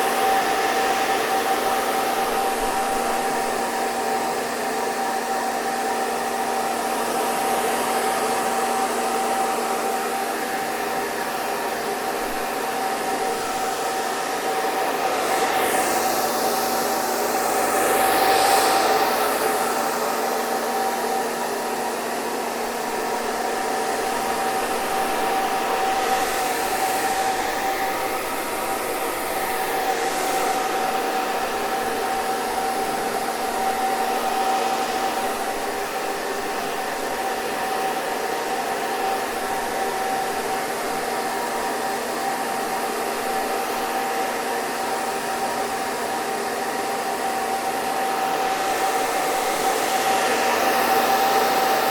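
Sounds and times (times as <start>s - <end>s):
hair dryer running: 0.0s - 51.9s.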